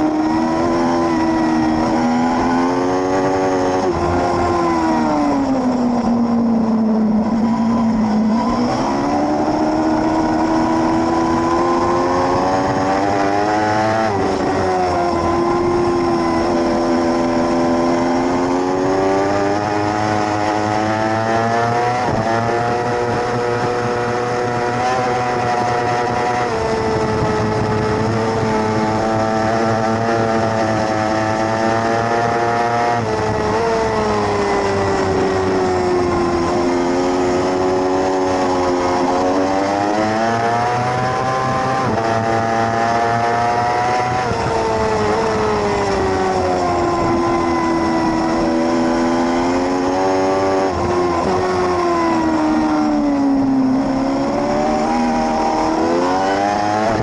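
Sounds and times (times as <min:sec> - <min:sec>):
racing motorcycle engine: 0:00.0 - 0:57.0.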